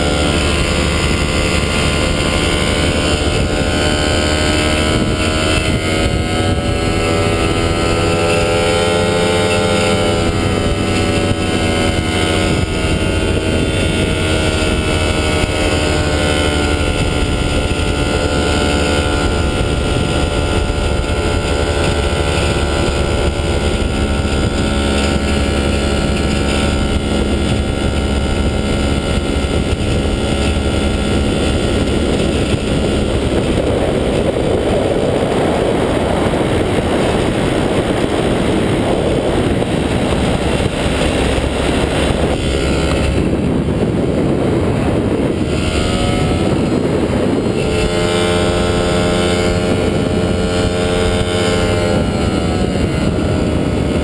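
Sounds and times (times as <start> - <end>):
ultralight engine droning: 0.0 - 54.0
wind on microphone: 0.0 - 54.0.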